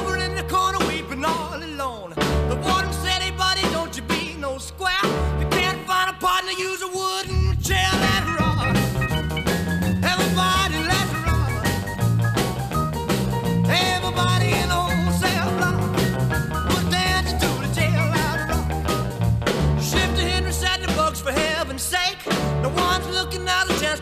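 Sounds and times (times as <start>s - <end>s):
upbeat rock and roll music: 0.0s - 24.0s.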